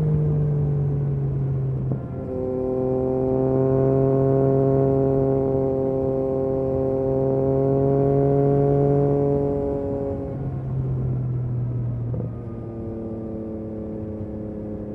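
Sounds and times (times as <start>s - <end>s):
motorcycle engine at speed: 0.0s - 14.9s.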